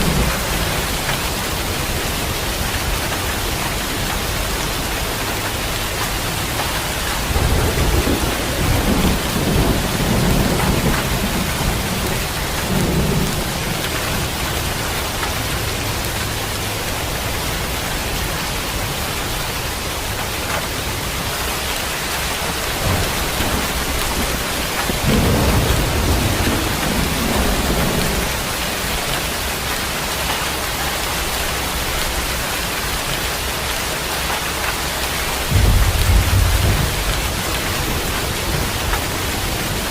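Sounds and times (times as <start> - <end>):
heavy rain pouring: 0.0 - 39.9
thunder rumbling: 0.0 - 39.9.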